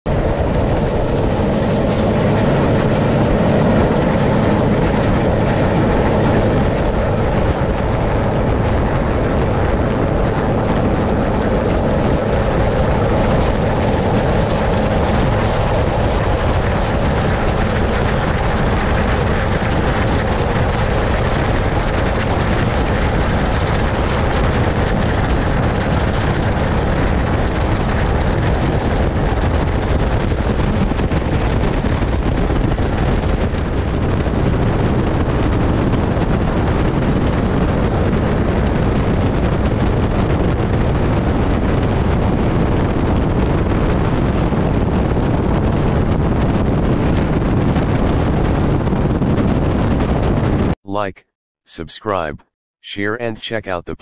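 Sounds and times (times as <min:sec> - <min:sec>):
helicopter rotor and engines: 0:00.1 - 0:54.0.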